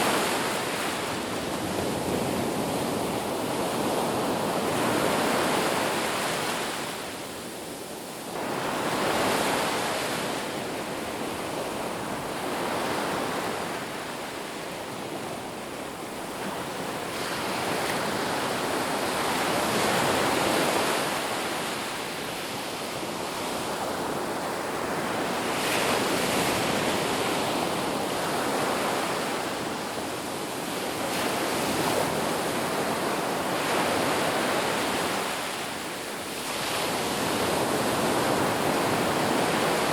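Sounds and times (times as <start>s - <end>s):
ocean surf on a beach: 0.0s - 39.9s.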